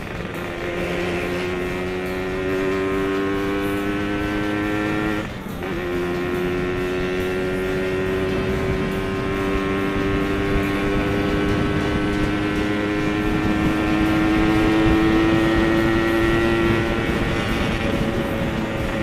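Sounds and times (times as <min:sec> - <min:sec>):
motorcycle engine cruising: 0:00.0 - 0:19.0
wind and road rush: 0:00.0 - 0:19.0.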